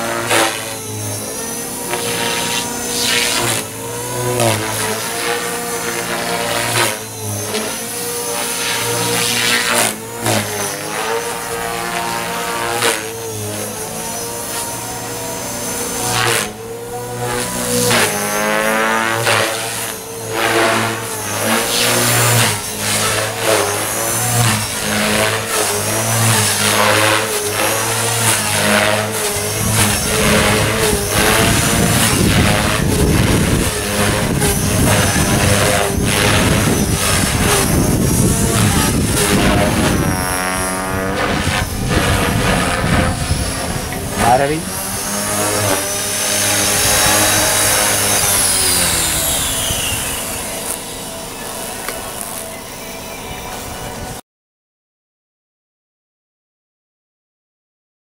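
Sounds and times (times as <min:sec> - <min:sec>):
rc helicopter rotor whine: 0:00.0 - 0:54.2.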